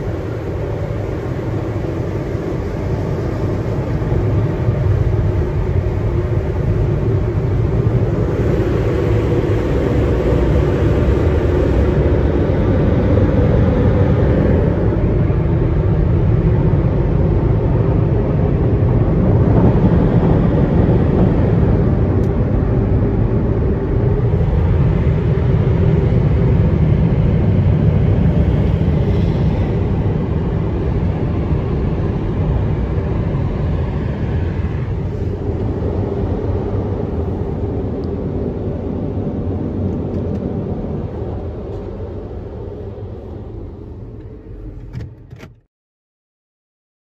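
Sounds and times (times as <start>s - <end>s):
car wash dryers blowing: 0.0s - 44.9s.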